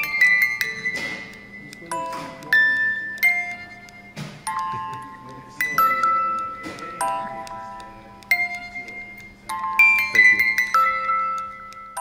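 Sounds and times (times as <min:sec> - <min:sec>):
bell-like mallet notes: 0:00.0 - 0:12.0.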